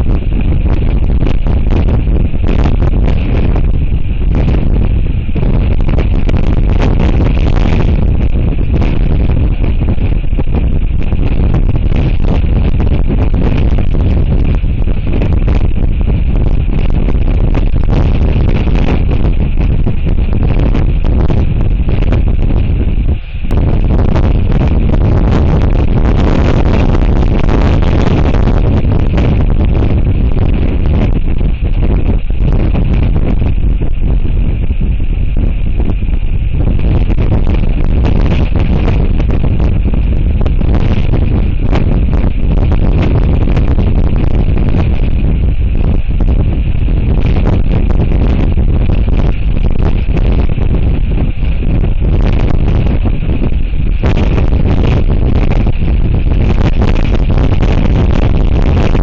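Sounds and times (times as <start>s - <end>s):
gusty wind buffeting microphone: 0.0s - 59.0s.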